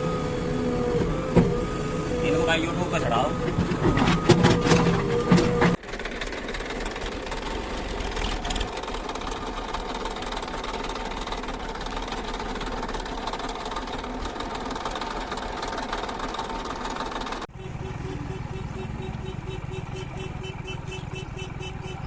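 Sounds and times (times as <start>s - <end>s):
diesel engine clattering: 0.0s - 22.0s.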